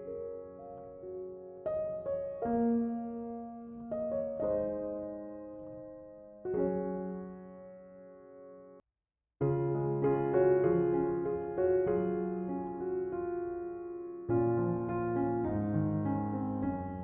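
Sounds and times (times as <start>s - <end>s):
gentle piano chords: 0.0s - 8.8s, 9.4s - 17.0s.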